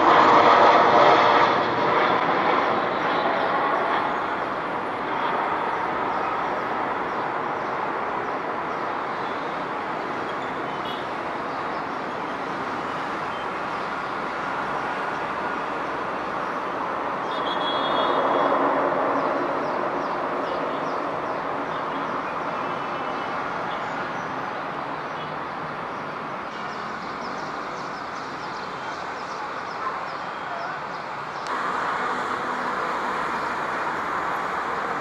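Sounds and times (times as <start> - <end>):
distant jet engines: 0.0 - 35.0.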